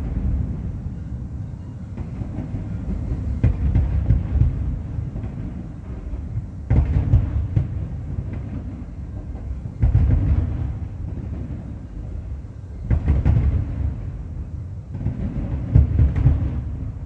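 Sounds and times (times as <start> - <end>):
distant fireworks booming: 0.0 - 1.1, 1.9 - 17.0.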